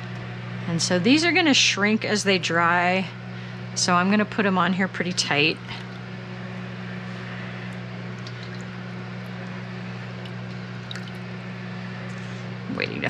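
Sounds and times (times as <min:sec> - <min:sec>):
dehydrator fan and motor hum: 0:00.0 - 0:13.0.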